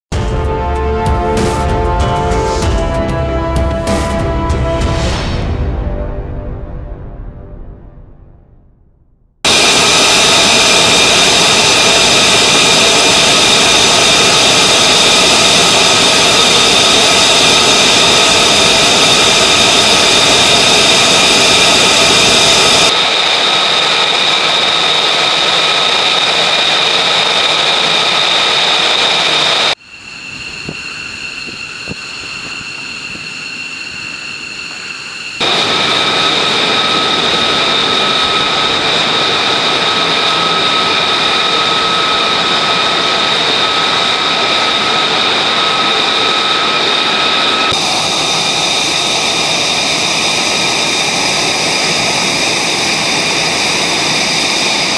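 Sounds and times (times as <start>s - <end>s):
jet engines roaring and whining: 0.1s - 7.5s, 9.4s - 54.9s.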